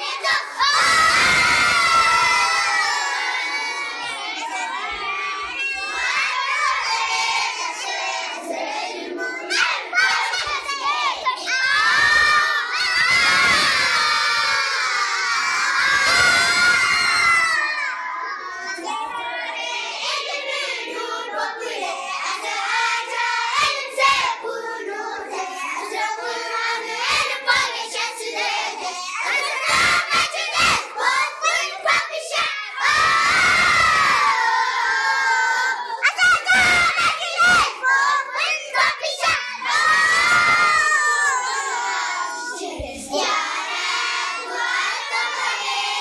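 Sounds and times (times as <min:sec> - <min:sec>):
children singing in unison: 0:00.0 - 0:46.0.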